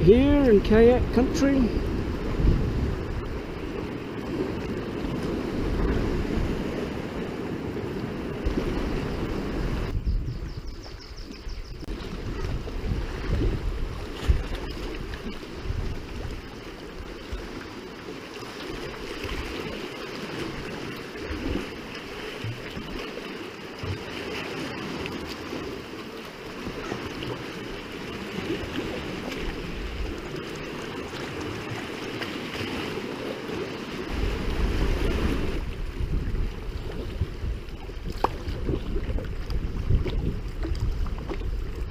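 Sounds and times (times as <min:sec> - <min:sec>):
wind rumbling on microphone: 0:00.0 - 0:23.2, 0:23.8 - 0:41.9
sea water lapping: 0:00.0 - 0:41.9.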